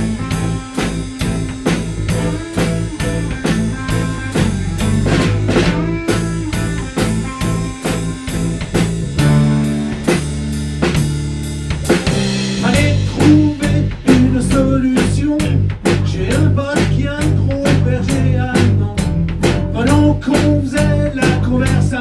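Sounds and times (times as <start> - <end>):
drum kit beat: 0.0 - 22.0
live rock band playing: 0.0 - 22.0.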